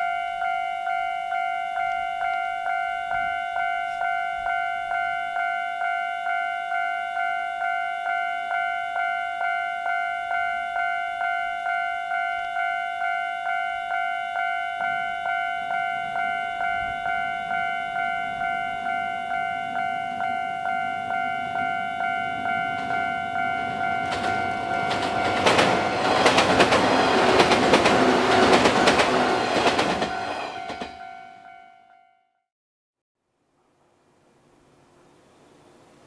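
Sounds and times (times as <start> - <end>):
level crossing bell ringing: 0.0 - 32.3
electric train rumble: 0.2 - 31.6.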